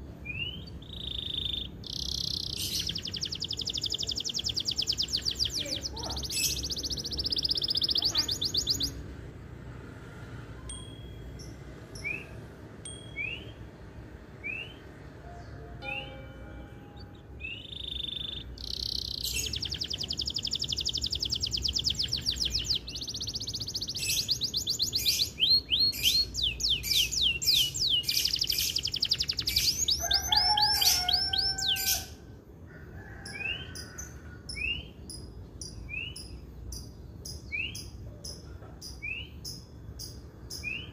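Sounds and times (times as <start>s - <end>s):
canary singing trills: 0.2s - 9.1s, 10.6s - 32.3s, 33.1s - 40.9s.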